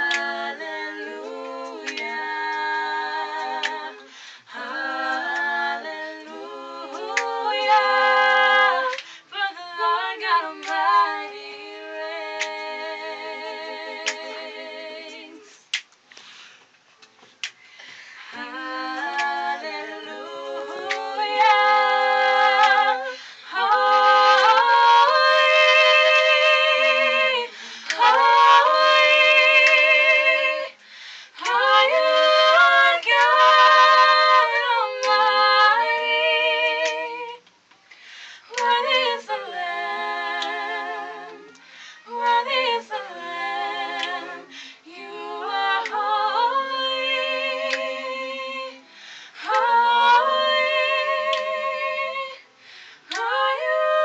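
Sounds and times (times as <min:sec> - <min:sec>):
vocal quartet singing in harmony: 0:00.0 - 0:16.7, 0:17.4 - 0:54.0.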